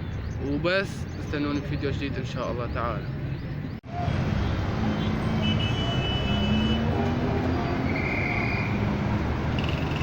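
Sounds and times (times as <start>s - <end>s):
hum of passing cars: 0.6s - 10.0s.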